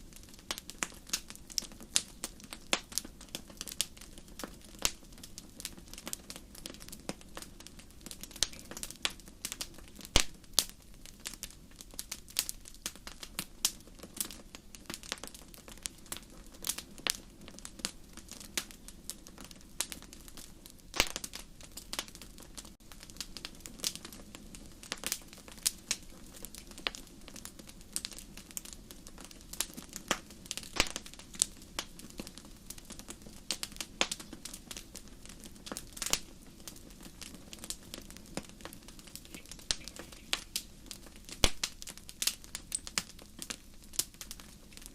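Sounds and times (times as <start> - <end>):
wood campfire crackling: 0.0 - 44.9.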